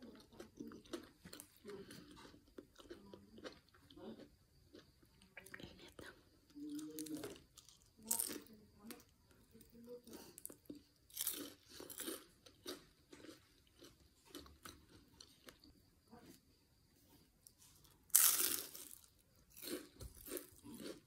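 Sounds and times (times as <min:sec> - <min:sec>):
chewing and crunching fried food: 0:00.0 - 0:16.4, 0:17.0 - 0:21.0.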